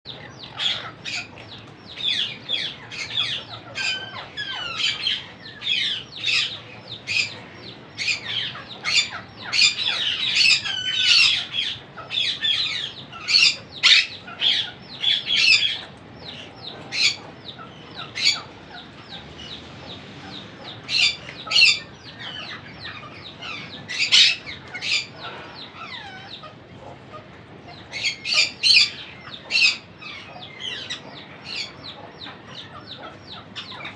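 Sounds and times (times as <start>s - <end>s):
parakeet chicks squawking: 0.1s - 33.9s.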